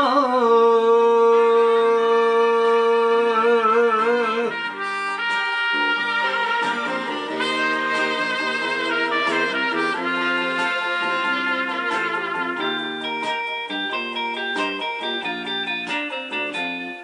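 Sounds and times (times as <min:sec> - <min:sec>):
backing band horns: 0:01.3 - 0:15.6.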